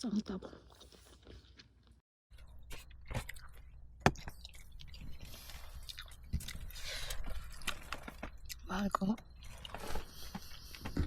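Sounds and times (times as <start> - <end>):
person chewing: 0.2 - 11.0.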